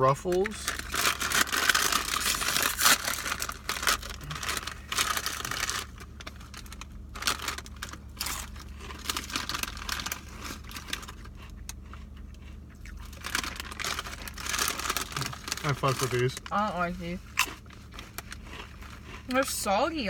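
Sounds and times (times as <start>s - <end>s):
foil chip bag crinkling: 0.0s - 19.6s.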